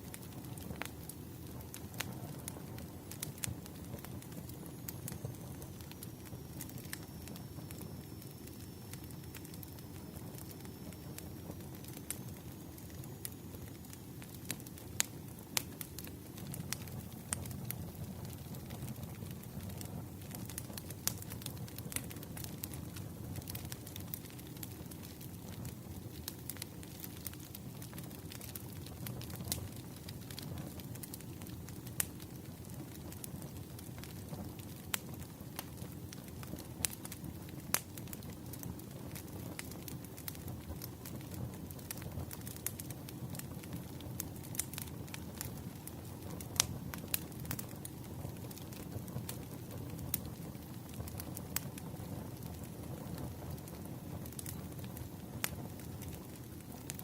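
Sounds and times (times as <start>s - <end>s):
campfire flames rumbling: 0.0s - 57.0s
fire crackles and pops: 0.0s - 57.0s.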